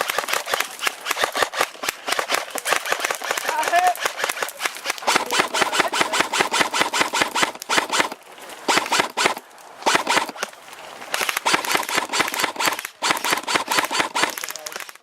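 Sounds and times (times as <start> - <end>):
airsoft guns firing bursts: 0.0 - 10.5, 11.1 - 15.0.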